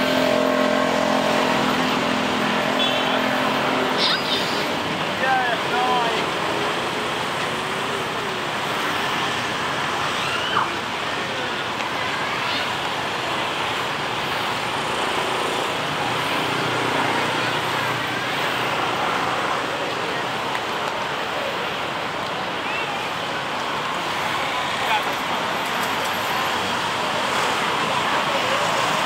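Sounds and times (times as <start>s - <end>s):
passing cars and motorbikes: 0.0s - 29.0s.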